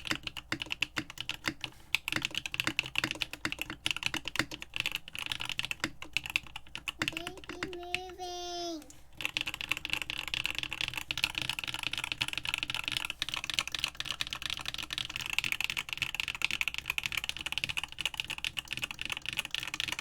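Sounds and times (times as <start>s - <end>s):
fast mechanical keyboard typing: 0.0s - 20.0s.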